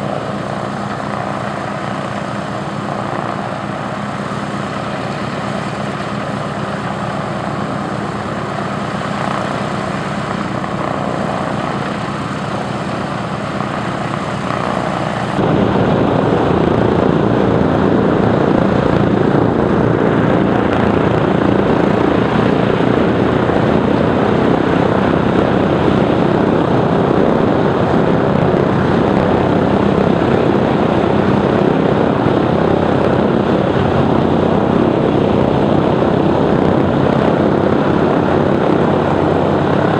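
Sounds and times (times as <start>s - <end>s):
propeller engines throbbing: 0.0s - 39.9s.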